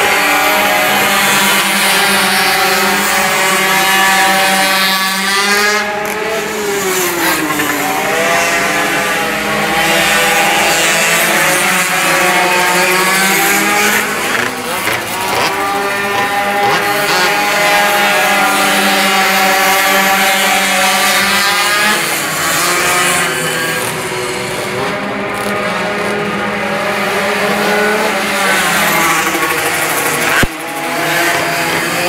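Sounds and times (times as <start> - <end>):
mini motorbike engines revving: 0.0 - 32.0.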